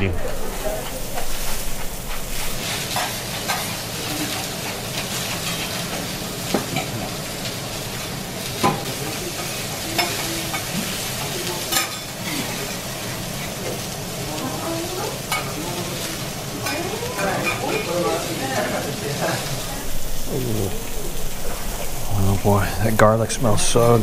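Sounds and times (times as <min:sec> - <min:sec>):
steak sizzling on griddle: 0:00.0 - 0:24.0.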